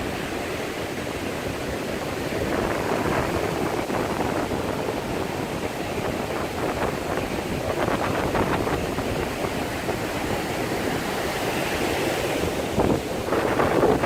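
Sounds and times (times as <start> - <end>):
ocean surf washing up beach: 0.0 - 14.0.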